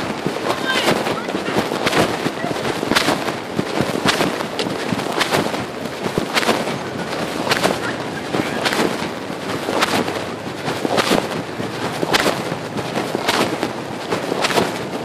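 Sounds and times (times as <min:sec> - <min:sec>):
fabric rubbing on a microphone: 0:00.0 - 0:15.0.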